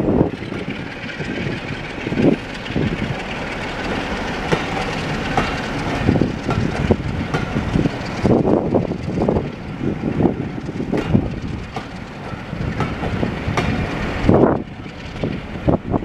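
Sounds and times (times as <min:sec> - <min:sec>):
train wheels rumbling on rails: 0:00.0 - 0:16.0
wheels clattering over rail joints: 0:00.0 - 0:16.0.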